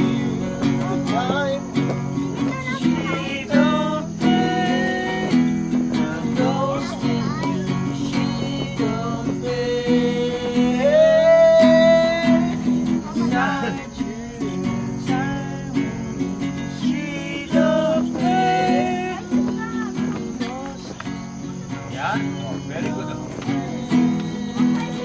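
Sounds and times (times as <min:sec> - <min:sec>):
person singing: 0:00.0 - 0:01.8, 0:02.4 - 0:20.9, 0:22.1 - 0:25.0
acoustic guitar strumming: 0:00.0 - 0:25.0.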